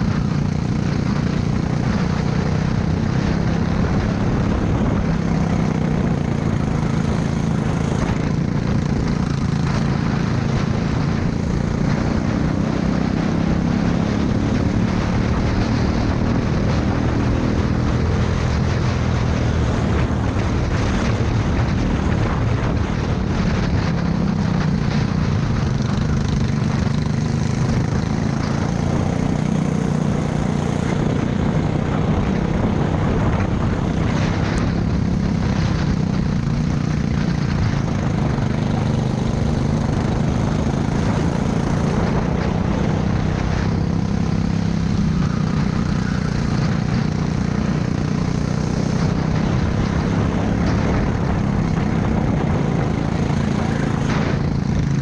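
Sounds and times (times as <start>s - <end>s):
go-kart engine running flat out: 0.0s - 55.0s
wind and track noise: 0.0s - 55.0s.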